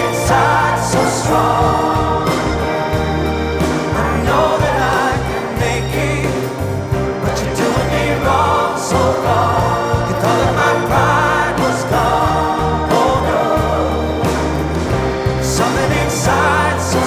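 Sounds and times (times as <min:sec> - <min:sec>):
song with vibrato vocals: 0:00.0 - 0:17.0
steady bass line: 0:00.0 - 0:17.0.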